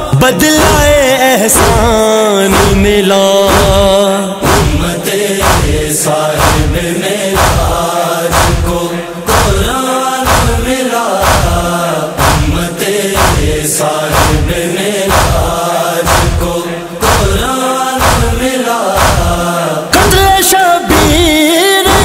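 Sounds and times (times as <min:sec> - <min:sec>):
deep regular beat: 0:00.0 - 0:22.0
wordless vocal chorus: 0:00.0 - 0:22.0.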